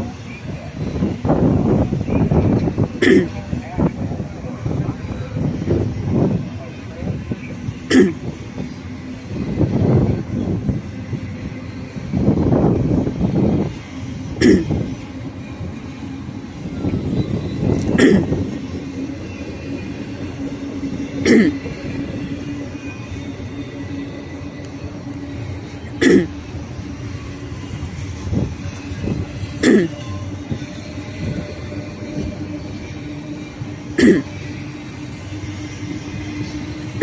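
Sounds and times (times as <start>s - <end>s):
freight train cars rumbling past: 0.0s - 37.0s
sharp train clack: 0.0s - 37.0s.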